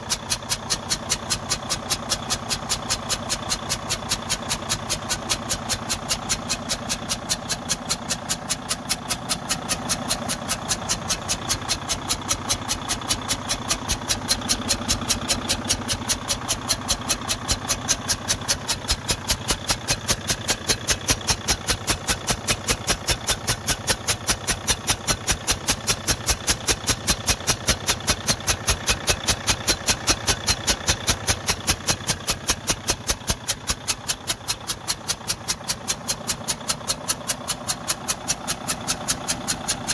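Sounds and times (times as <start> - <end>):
diesel engine idling: 0.0 - 39.9
sharp puffing from engine: 0.0 - 39.9.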